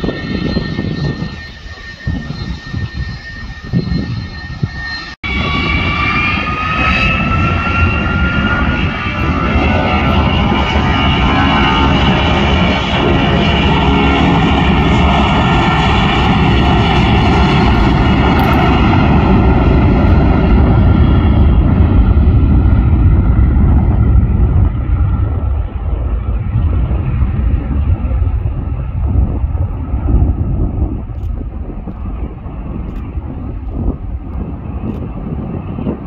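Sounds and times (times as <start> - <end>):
high engine whine: 0.0 - 36.0
jet engine roar at takeoff: 0.0 - 36.0.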